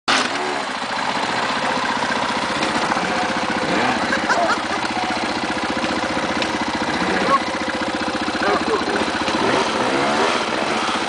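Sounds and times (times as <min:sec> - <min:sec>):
motorcycle engine running at low revs: 0:00.1 - 0:11.0.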